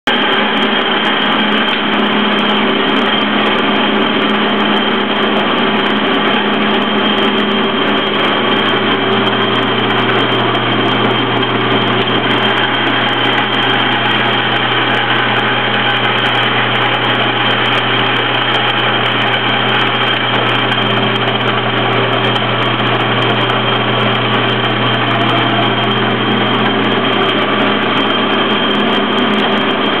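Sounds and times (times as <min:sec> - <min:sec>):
metal lathe humming with whine: 0:00.1 - 0:30.0.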